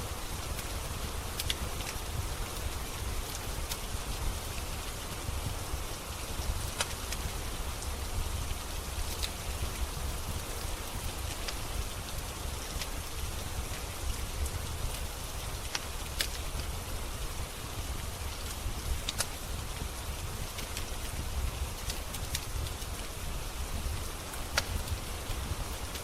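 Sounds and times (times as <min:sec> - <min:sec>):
rain falling: 0:00.0 - 0:26.0
wood fire crackling and popping: 0:00.1 - 0:26.0.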